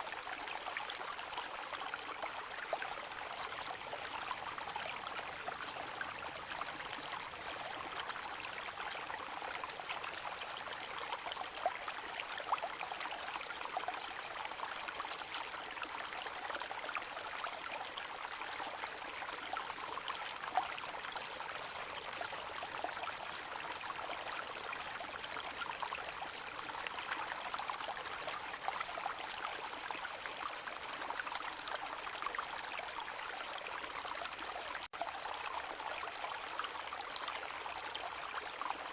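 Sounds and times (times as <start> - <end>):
brook babbling over stones: 0.0 - 38.9.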